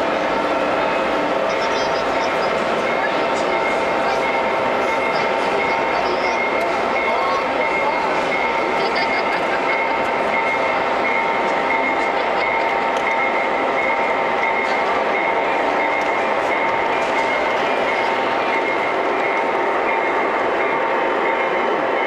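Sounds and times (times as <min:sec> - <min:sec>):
model locomotive running on track: 0:00.0 - 0:22.0
voices talking: 0:00.8 - 0:20.4.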